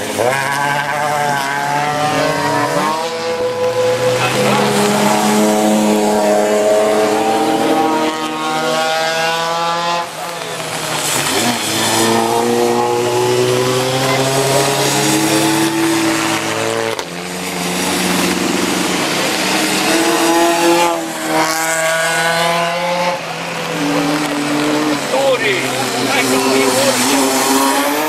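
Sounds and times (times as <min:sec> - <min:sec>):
race car engines accelerating: 0:00.0 - 0:28.0.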